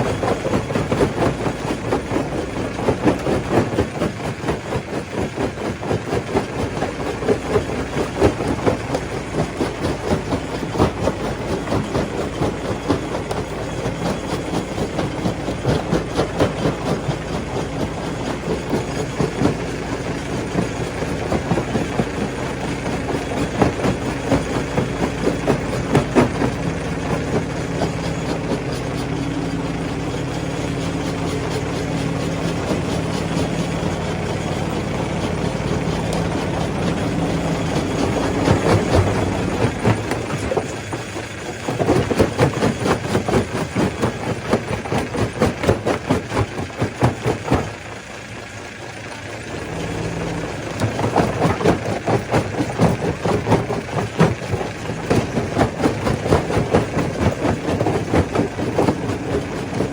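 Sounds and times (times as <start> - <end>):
rock crushing clatter: 0.0 - 48.0, 49.1 - 59.9
engine hum: 0.0 - 59.9.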